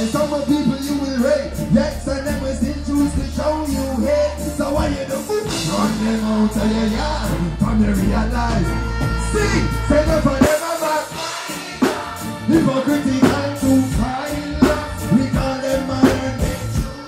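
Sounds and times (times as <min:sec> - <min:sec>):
man singing and chanting: 0:00.0 - 0:11.3, 0:12.5 - 0:17.0
reggae band music: 0:00.0 - 0:17.0.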